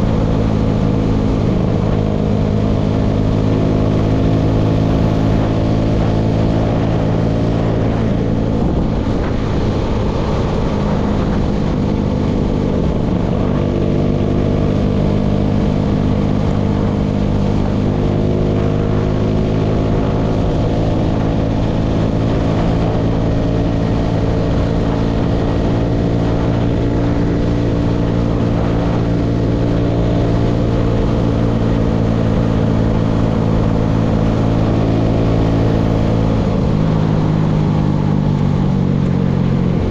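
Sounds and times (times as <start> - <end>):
engine low drone: 0.0 - 39.9.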